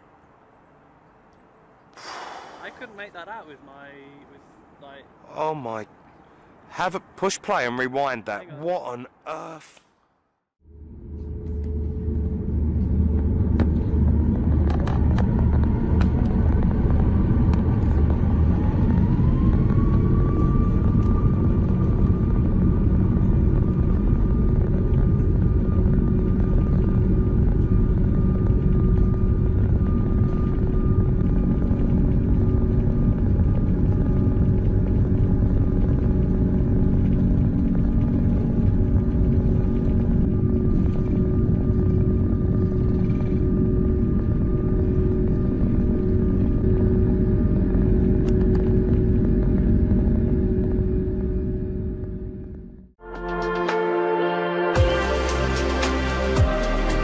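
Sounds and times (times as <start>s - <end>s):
jet engines rumbling: 1.9s - 8.4s, 10.7s - 53.9s
jet engine whine: 2.0s - 4.8s, 10.6s - 57.0s.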